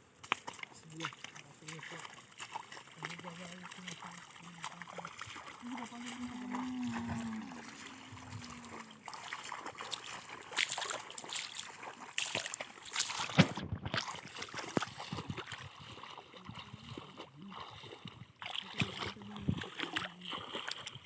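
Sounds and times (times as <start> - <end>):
river water splashing: 0.0 - 21.0.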